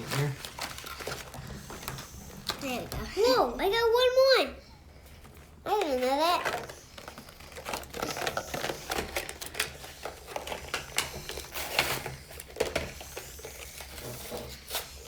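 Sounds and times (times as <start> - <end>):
plastic packaging crinkling: 0.0 - 2.9, 5.7 - 15.0.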